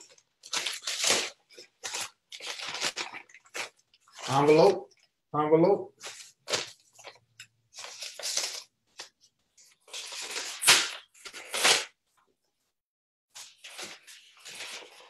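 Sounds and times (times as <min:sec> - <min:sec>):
paper envelope rustling and tearing: 0:00.0 - 0:04.8, 0:06.0 - 0:12.0, 0:13.4 - 0:15.0.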